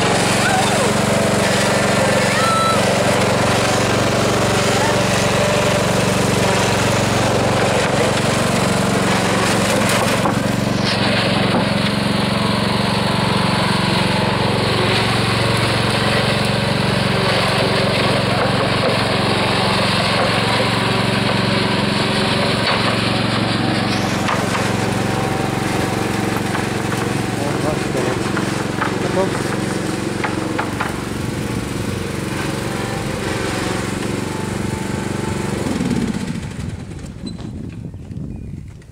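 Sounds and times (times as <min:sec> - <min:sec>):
riding lawn mower engine running: 0:00.0 - 0:38.9.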